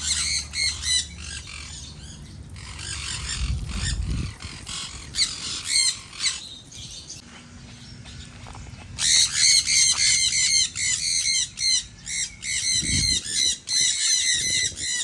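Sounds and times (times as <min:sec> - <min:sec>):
parrots squawking: 0:00.0 - 0:15.0.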